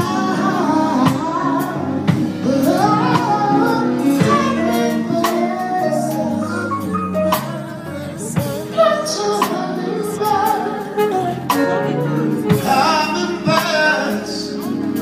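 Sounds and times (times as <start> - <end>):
live band playing soul ballad: 0.0 - 15.0.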